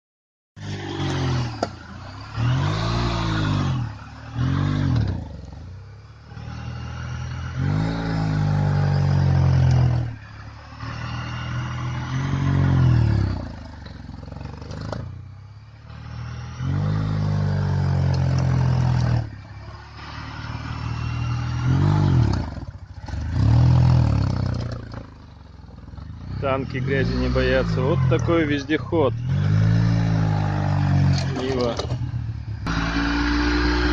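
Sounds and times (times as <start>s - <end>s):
buggy engine revving: 0.6s - 33.9s.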